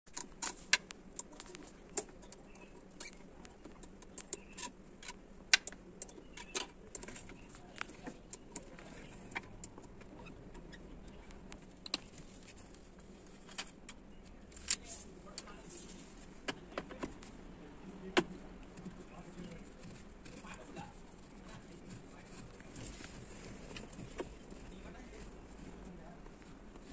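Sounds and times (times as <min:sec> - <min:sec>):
faint steady hum: 0:00.1 - 0:26.9.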